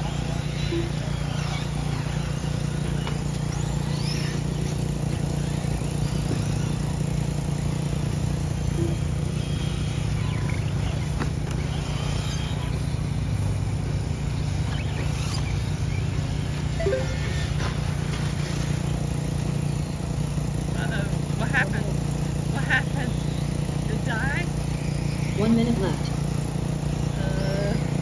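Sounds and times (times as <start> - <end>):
steady low hum: 0.0 - 28.0
toy truck motors whining: 0.0 - 28.0.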